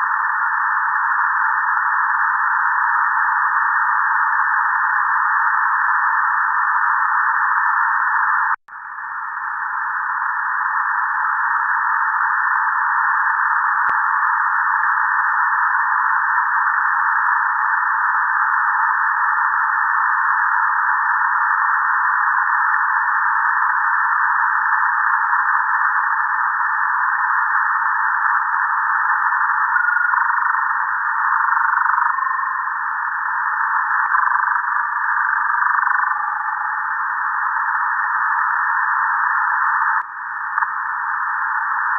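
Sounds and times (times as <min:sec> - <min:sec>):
shortwave radio static hiss: 0:00.0 - 0:41.9.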